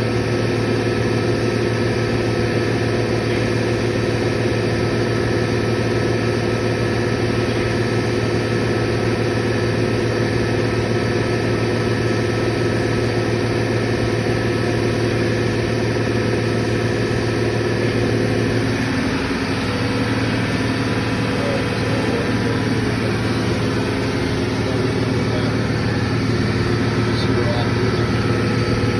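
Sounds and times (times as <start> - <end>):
compressor machine hum: 0.0 - 28.9.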